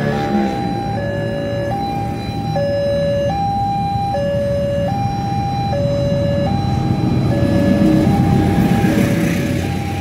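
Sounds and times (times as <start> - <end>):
two-tone crossing alarm: 0.0 - 10.0
low engine rumble: 0.6 - 10.0.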